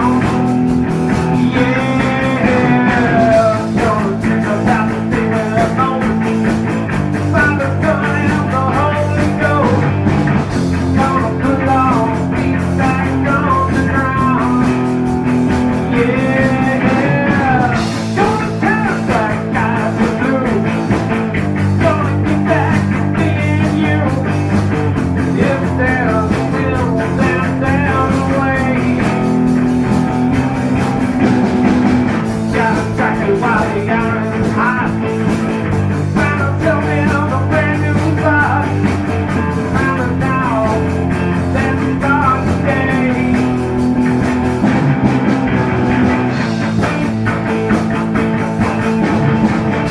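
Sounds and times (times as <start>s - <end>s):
lead guitar with bent notes: 0.0s - 49.9s
rock band playing: 0.0s - 49.9s.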